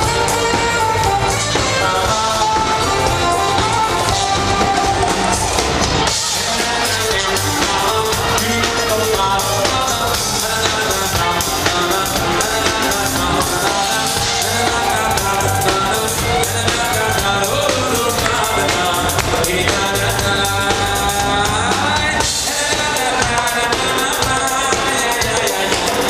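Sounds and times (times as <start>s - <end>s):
man singing into a microphone: 0.0s - 4.9s, 6.1s - 26.0s
drum kit beat: 0.0s - 26.0s
electric bass guitar: 0.0s - 26.0s.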